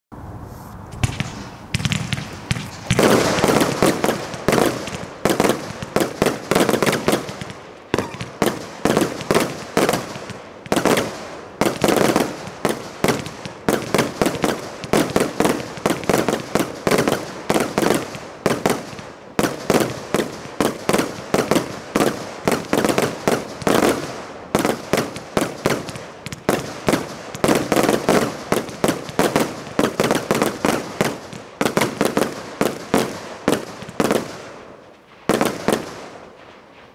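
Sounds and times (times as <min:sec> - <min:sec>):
fireworks barrage: 0:00.2 - 0:36.9.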